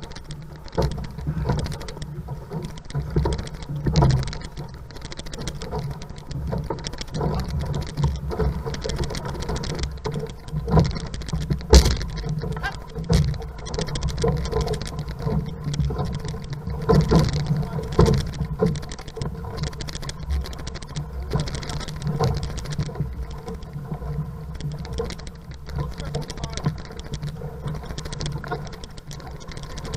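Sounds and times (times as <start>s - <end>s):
paddle splashes and knocks: 0.0s - 29.9s
water rushing past a canoe: 0.0s - 29.9s.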